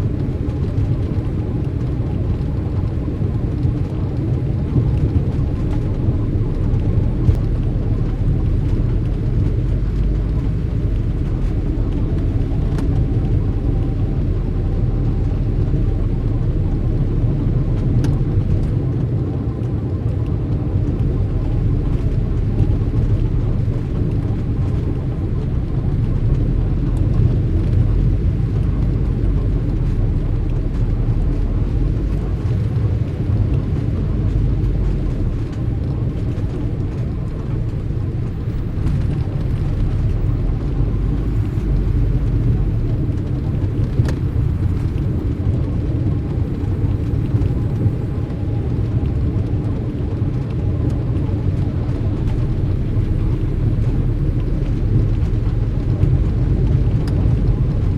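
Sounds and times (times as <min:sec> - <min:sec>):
passing car traffic rumble: 0:00.0 - 0:57.9.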